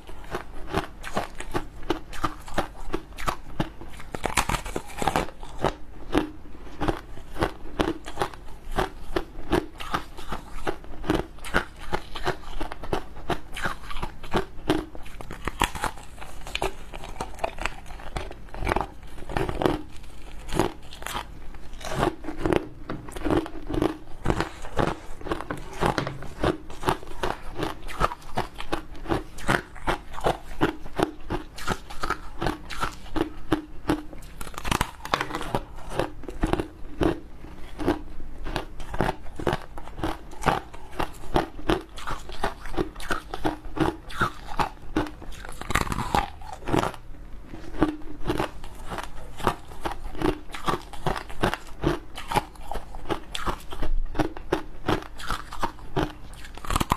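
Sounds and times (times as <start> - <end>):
crunching foam ice with teeth: 0.0 - 47.0, 47.6 - 56.9.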